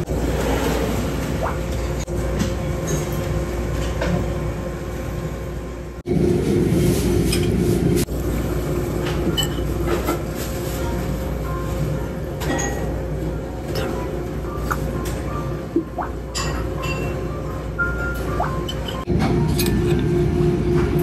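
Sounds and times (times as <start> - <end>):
ship engines rumbling: 0.0 - 21.0.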